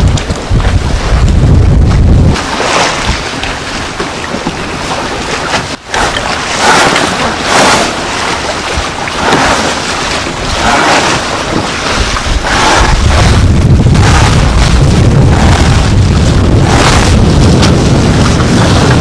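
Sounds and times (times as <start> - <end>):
water splashing along boat hull: 0.0 - 19.0
wind on microphone: 0.0 - 19.0.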